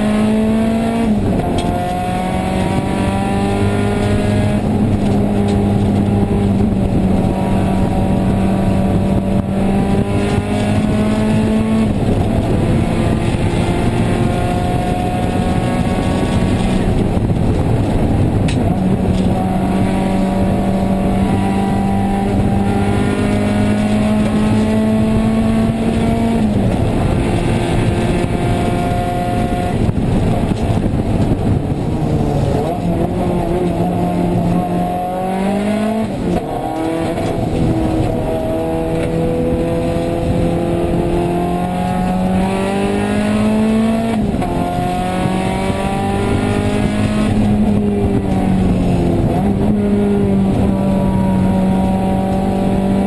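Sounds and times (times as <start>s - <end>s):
car engine revving from inside cabin: 0.0s - 17.0s, 19.2s - 29.9s, 31.7s - 53.0s.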